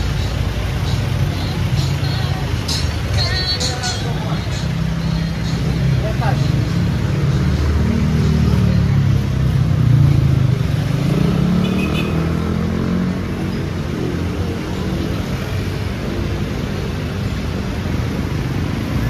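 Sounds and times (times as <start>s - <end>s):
road noise hum: 0.0s - 19.0s
vehicle engines passing: 0.0s - 19.0s.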